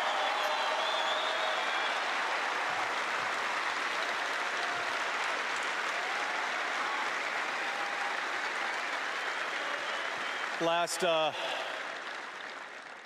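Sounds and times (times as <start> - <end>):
crowd cheers: 0.0 - 13.0
stadium crowd applauding: 0.0 - 13.0.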